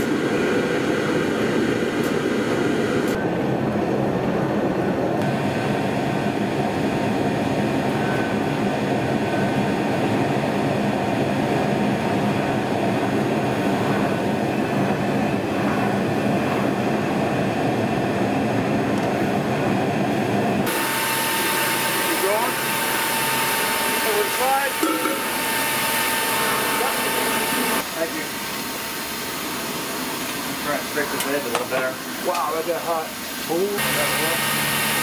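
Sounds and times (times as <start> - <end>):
furnace burner roaring: 0.0 - 35.0.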